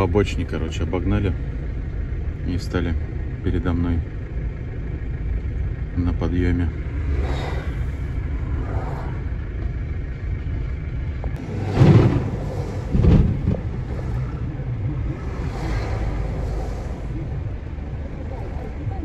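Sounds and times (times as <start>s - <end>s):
van engine and road rumble: 0.0s - 19.0s.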